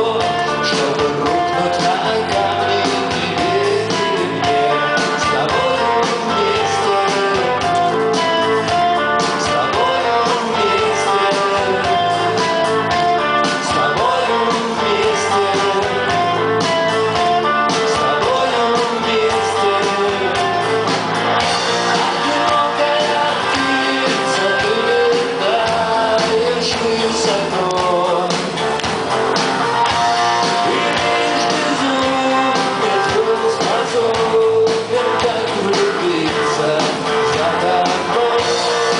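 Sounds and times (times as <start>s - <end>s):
man singing: 0.0s - 20.8s, 21.7s - 28.8s, 30.4s - 38.9s
live rock band playing: 0.0s - 38.9s.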